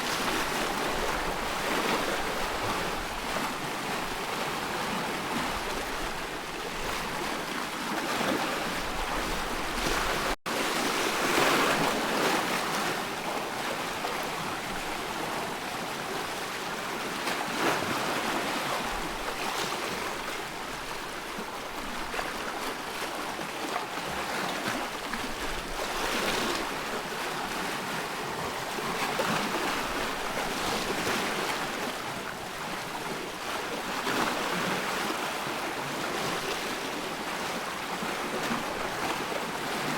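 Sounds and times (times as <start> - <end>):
waves washing in and out: 0.0 - 39.9.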